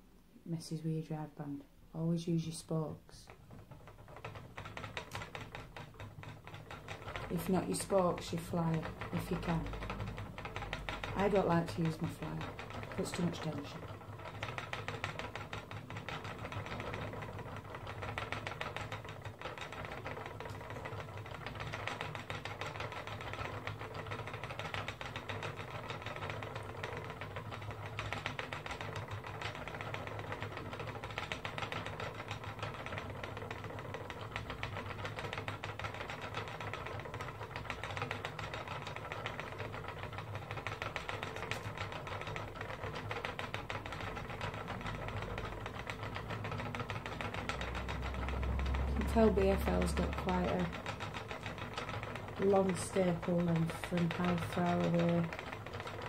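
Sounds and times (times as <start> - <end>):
spinning wheel whirring and ticking: 2.0 - 56.0.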